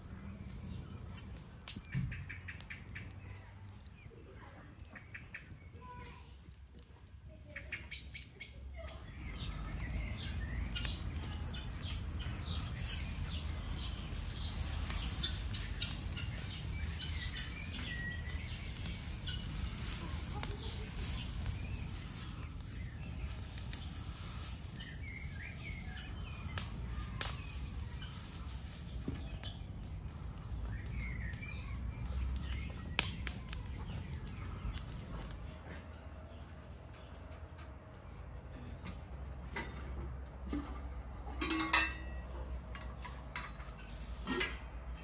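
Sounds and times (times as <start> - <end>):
small birds chirping: 0.0 - 38.8.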